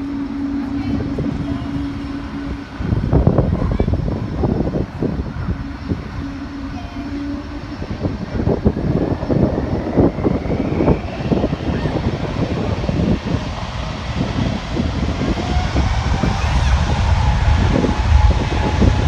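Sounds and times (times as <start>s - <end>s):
jet engines rumbling: 0.0s - 19.0s
rising jet engine whine: 0.0s - 19.0s.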